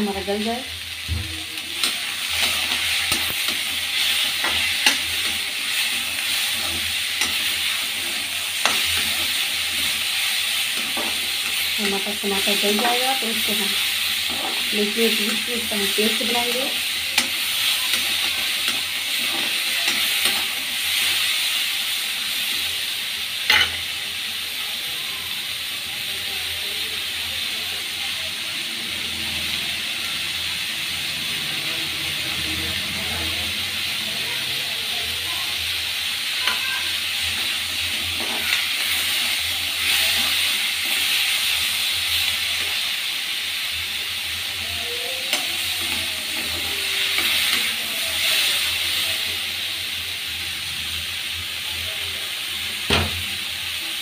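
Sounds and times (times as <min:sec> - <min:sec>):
onions sizzling in oil: 0:00.0 - 0:54.0.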